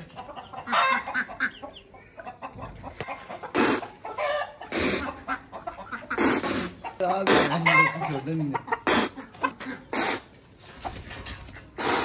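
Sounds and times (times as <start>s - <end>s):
rooster clucking: 0.0s - 12.0s.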